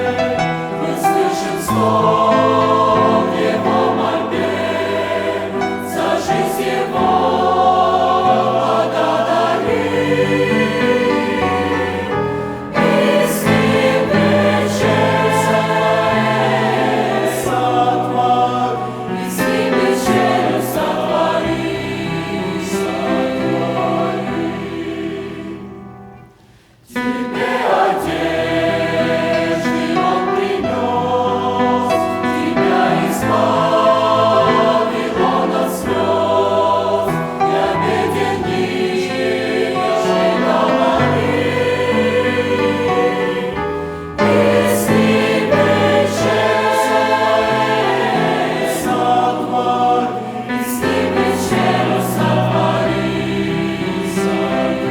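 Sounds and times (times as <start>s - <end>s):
choir singing a hymn: 0.0s - 54.9s.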